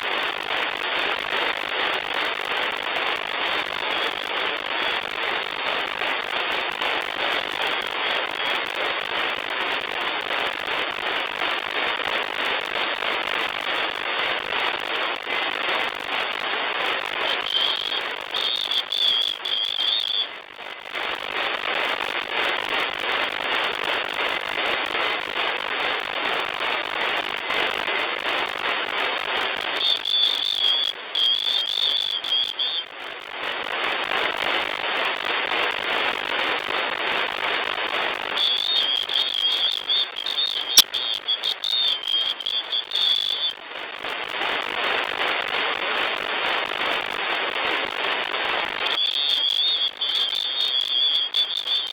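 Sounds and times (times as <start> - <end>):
radio static hiss: 0.0 - 51.9.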